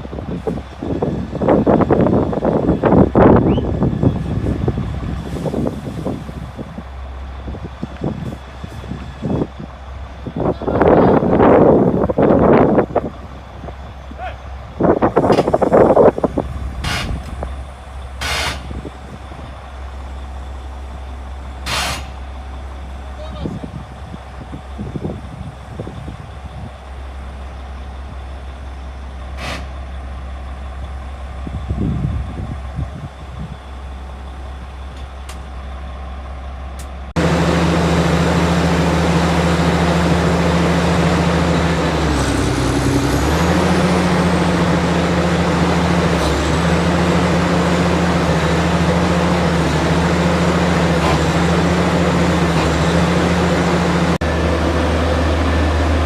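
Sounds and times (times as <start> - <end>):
heavy diesel engine drone: 0.0 - 56.0.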